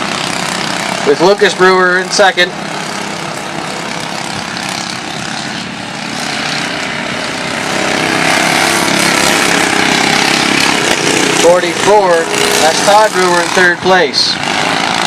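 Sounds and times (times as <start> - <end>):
racing lawn tractor engines: 0.0 - 15.0.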